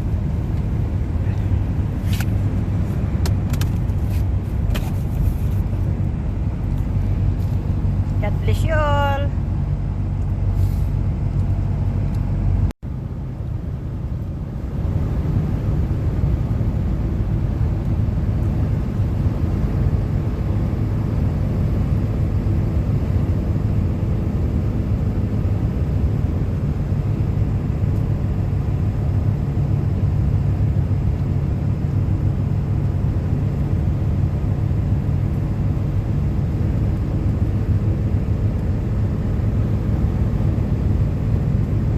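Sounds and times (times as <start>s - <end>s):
car road rumble inside cabin: 0.0s - 41.9s.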